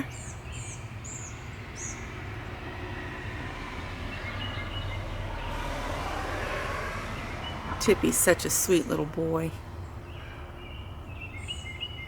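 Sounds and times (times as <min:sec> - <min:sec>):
car driving past: 0:00.0 - 0:11.8.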